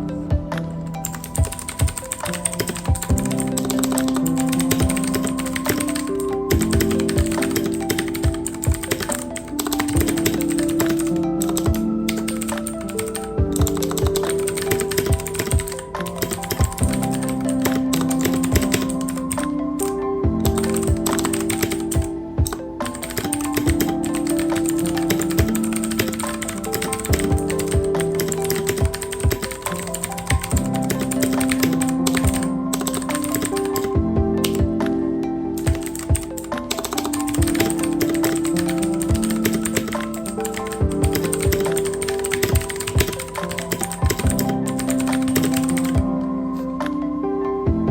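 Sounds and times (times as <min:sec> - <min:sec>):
rapid keyboard typing: 0:00.0 - 0:35.0, 0:35.6 - 0:47.0
background music with beat: 0:00.0 - 0:47.9.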